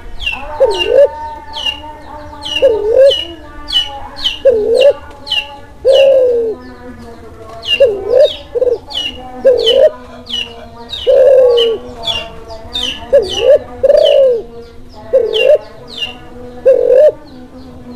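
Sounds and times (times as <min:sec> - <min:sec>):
dove cooing: 0:00.0 - 0:17.3.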